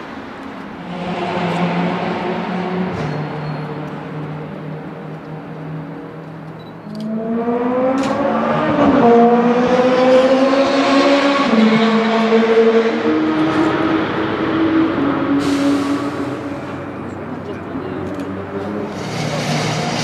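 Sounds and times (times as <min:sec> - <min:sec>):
car engine revving: 0:00.8 - 0:16.8.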